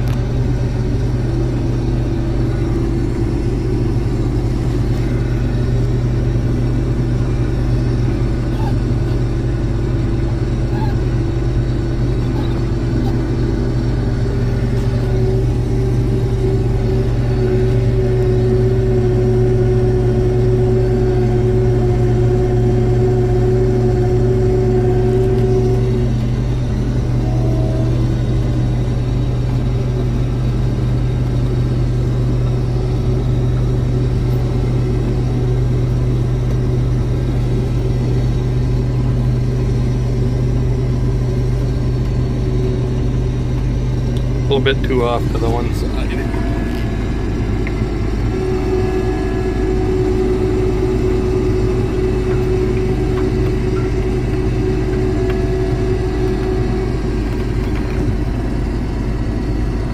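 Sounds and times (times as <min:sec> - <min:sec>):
combine harvester engine hum: 0:00.0 - 0:59.9
high-pitched whine: 0:00.0 - 0:59.9.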